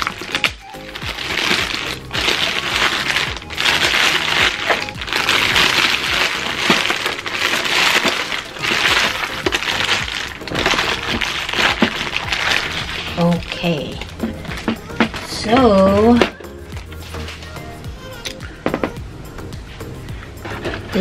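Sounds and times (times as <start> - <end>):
plastic bag crinkling: 0.0 - 17.4
background music: 0.0 - 21.0.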